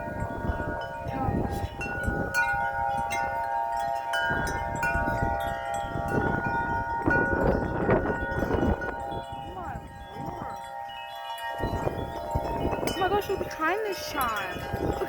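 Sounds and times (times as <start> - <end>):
wind buffeting microphone: 0.0 - 15.0
wind chimes ringing: 0.0 - 15.0.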